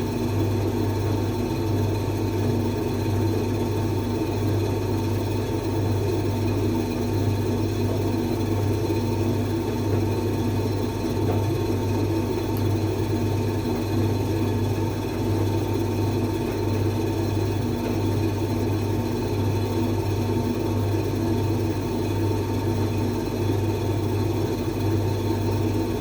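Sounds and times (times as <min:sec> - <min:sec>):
appliance humming and whirring: 0:00.0 - 0:26.0.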